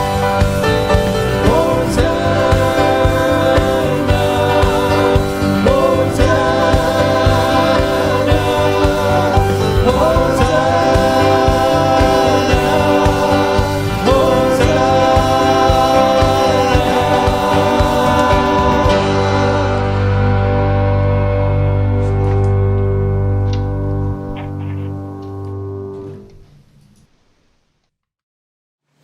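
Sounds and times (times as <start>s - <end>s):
hymn singing: 0.0s - 25.9s
instrumental accompaniment: 0.0s - 26.3s.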